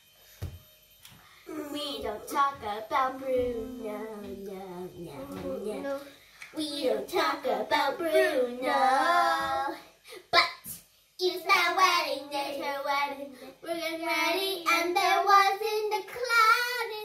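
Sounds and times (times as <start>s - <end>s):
child singing: 1.5s - 17.0s.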